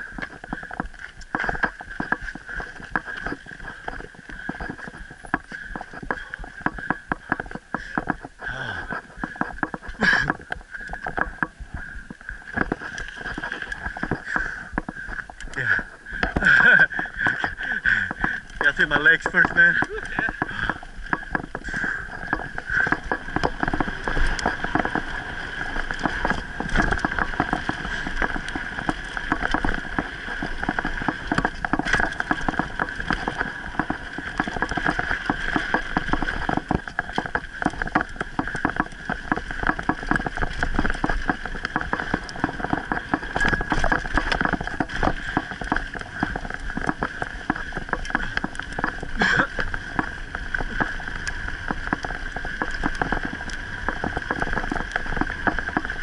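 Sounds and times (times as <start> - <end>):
bike rattling over gravel: 0.0 - 56.0.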